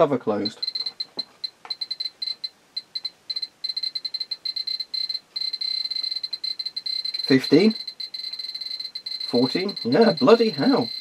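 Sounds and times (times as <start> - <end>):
dosimeter short high beeps: 0.5 - 11.0.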